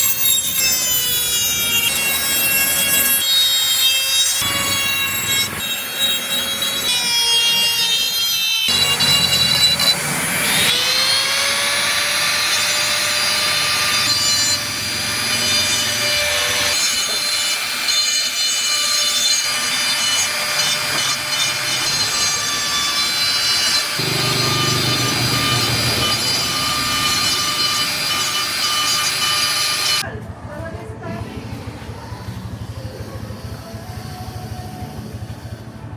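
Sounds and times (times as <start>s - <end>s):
power carving tool grinding wood: 0.0s - 30.0s, 32.8s - 35.8s.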